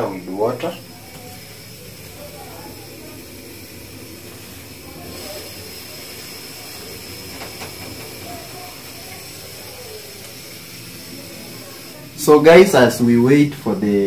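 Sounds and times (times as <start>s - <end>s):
pot of water hissing: 0.0s - 14.0s.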